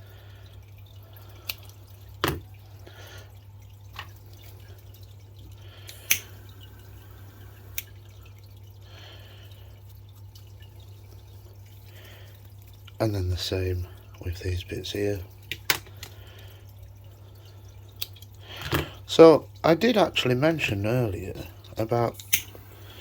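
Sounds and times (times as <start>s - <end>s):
steady low hum: 0.0s - 20.1s.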